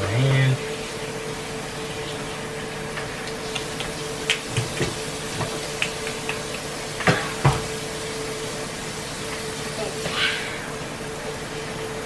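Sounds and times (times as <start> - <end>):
fish frying in oil: 0.0 - 12.0
steady hum: 0.0 - 12.0.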